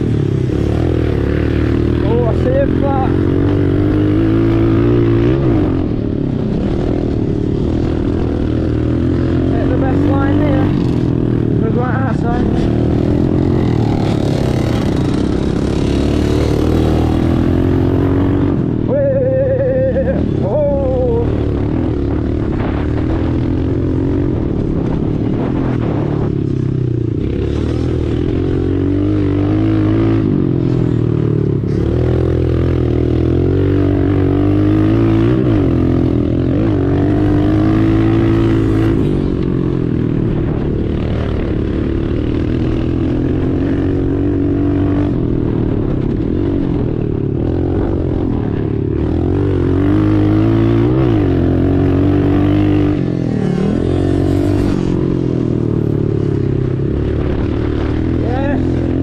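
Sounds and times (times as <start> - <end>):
pit bike engine revving: 0.0 - 59.0.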